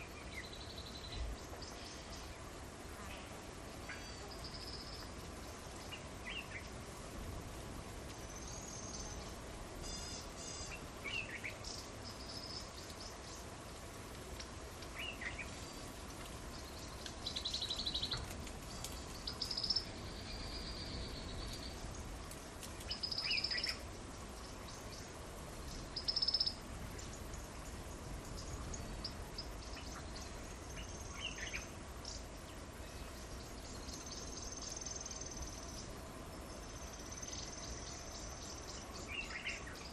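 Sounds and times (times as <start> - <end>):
faint low background noise: 0.0 - 39.9
songbirds chirping: 0.0 - 39.9.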